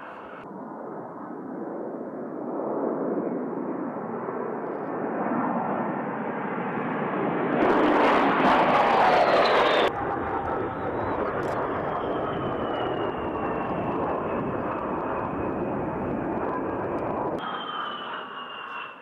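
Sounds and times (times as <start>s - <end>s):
jet flying low pass: 0.0s - 19.0s.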